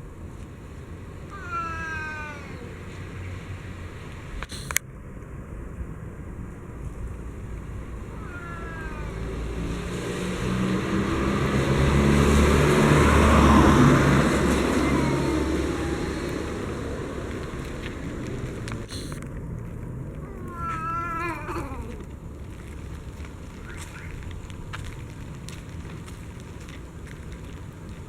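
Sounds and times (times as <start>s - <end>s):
motor vehicle passing by: 0.3s - 28.0s.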